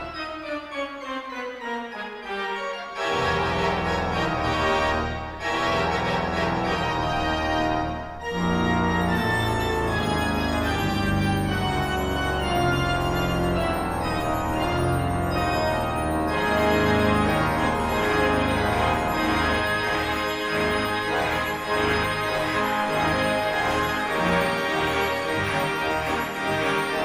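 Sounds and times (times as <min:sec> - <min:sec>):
church organ playing chords: 0:02.5 - 0:27.0.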